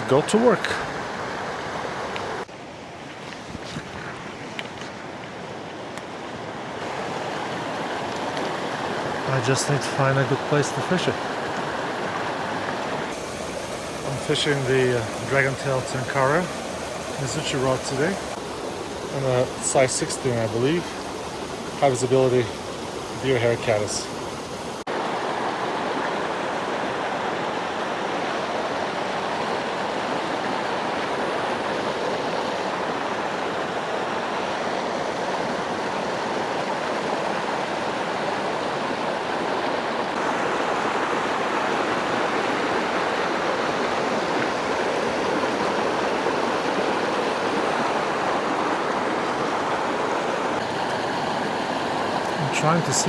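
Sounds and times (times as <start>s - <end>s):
creek water rushing: 0.0s - 53.0s.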